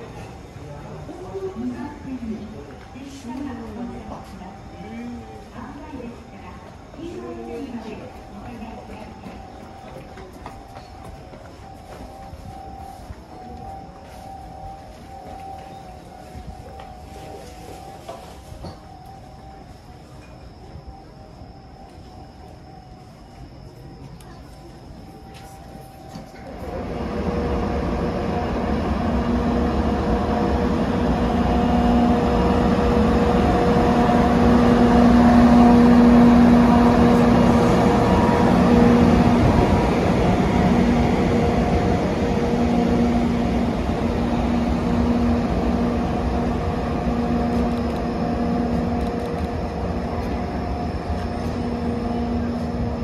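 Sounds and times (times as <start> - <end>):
wheels rumbling on rails: 0.0 - 22.1, 22.9 - 53.0
electric locomotive hum: 0.0 - 53.0.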